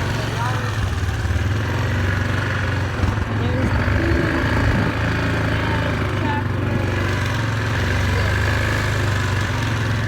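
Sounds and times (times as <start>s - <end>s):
single-cylinder engine running: 0.0s - 10.0s.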